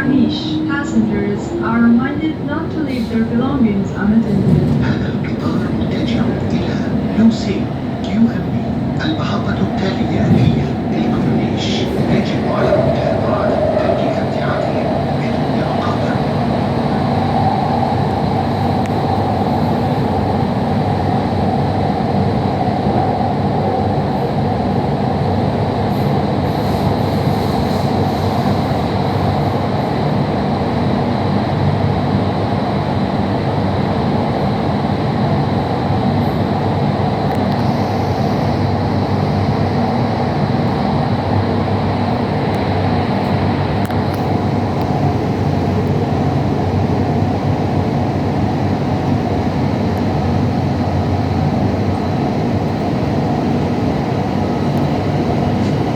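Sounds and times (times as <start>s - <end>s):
metro train wheels rumbling: 0.0s - 55.9s.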